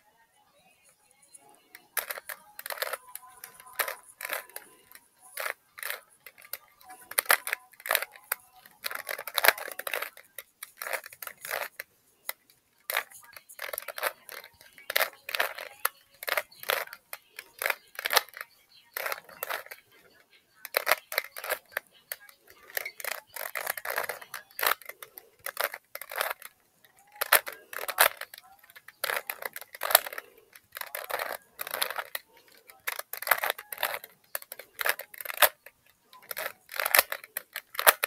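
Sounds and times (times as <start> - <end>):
puzzle cube plastic clicks: 1.3 - 38.0.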